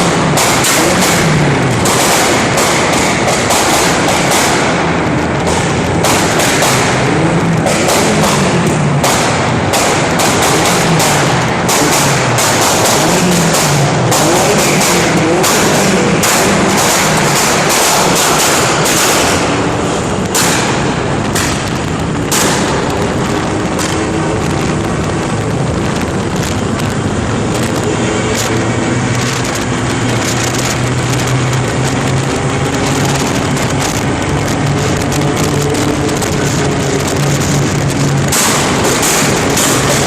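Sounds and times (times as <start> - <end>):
car engine running: 0.0 - 40.0
exhaust popping and banging: 0.0 - 40.0.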